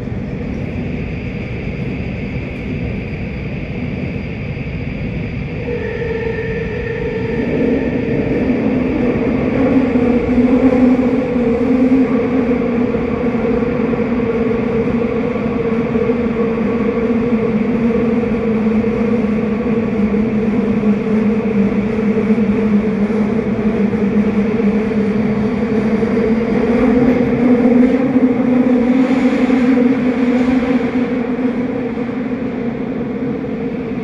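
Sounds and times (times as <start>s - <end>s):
wheels rumbling on rail: 0.0s - 34.0s
train motor hum: 5.5s - 34.0s.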